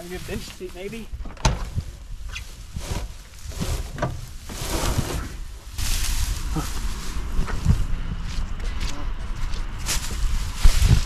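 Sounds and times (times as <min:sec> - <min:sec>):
footsteps through dry grass: 0:00.0 - 0:11.0
wind rumble on microphone: 0:00.0 - 0:11.0.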